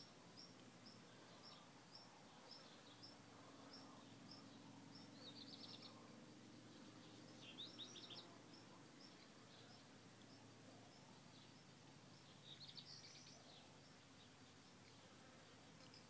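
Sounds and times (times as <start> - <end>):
bird chirping: 0.0 - 16.0
faint low hum: 0.0 - 16.0.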